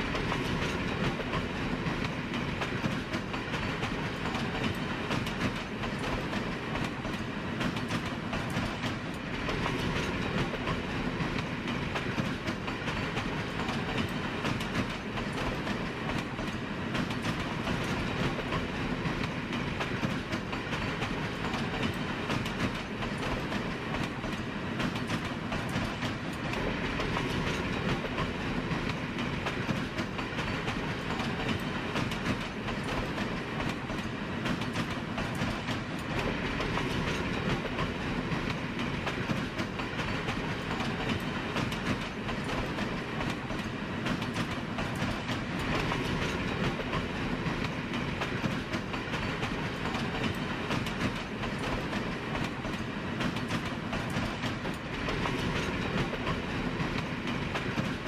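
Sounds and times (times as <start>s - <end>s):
train running along track: 0.0s - 58.0s
wheels clacking over rail joints: 0.0s - 58.0s.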